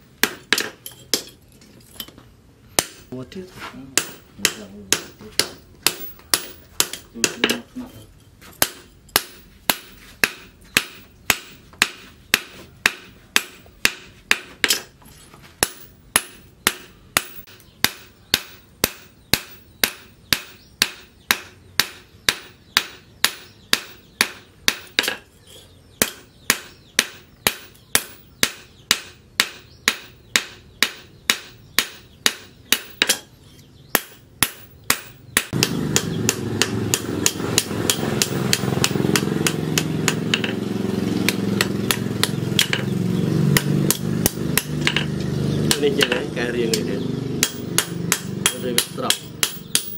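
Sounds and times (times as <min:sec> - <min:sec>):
hammer striking on anvil: 0:00.2 - 0:01.4, 0:04.0 - 0:07.6, 0:08.6 - 0:14.9, 0:15.6 - 0:25.2, 0:26.0 - 0:33.3, 0:33.9 - 0:40.6, 0:41.3 - 0:42.9, 0:43.5 - 0:49.9.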